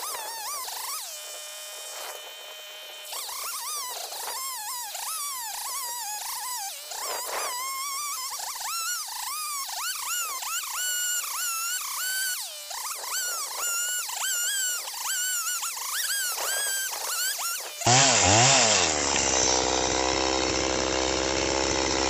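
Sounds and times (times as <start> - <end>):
chainsaw high buzzing whine: 0.0 - 22.0.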